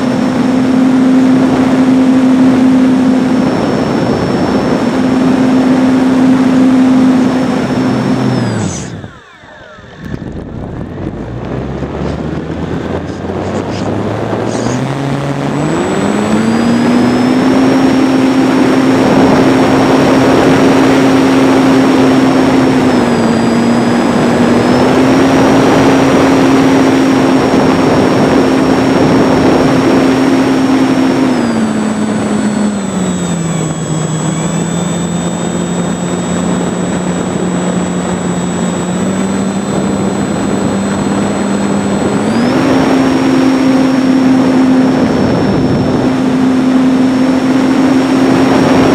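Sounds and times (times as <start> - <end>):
wind rushing over microphone: 0.0 - 9.2, 9.8 - 48.9
high whine: 0.0 - 48.9
model plane motor and propeller: 0.0 - 48.9.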